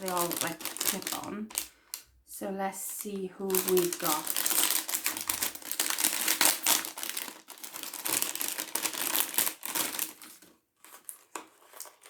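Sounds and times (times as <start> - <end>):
packet crinkled and torn open: 0.0 - 2.1, 2.9 - 12.0.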